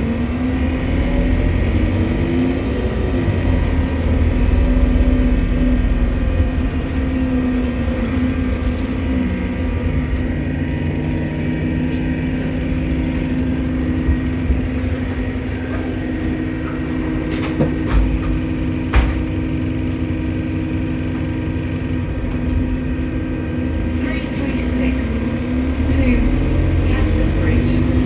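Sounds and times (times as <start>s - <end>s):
bus engine humming: 0.0s - 28.0s.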